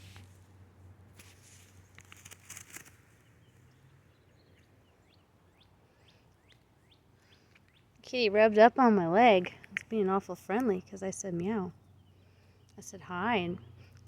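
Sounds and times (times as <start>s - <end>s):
distant birds chirping: 1.8s - 14.0s.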